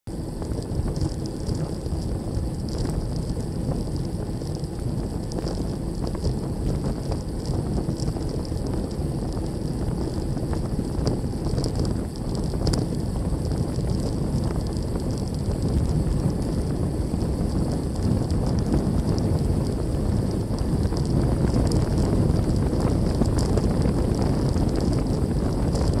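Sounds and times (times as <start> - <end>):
tyre and road noise: 0.1 - 26.0
wind buffeting microphone: 0.1 - 26.0.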